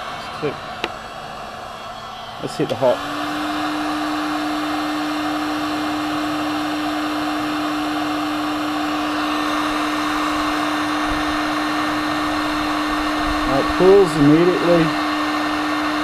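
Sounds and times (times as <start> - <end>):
blown air rushing: 0.0 - 16.0
heat gun motor hum: 0.0 - 16.0.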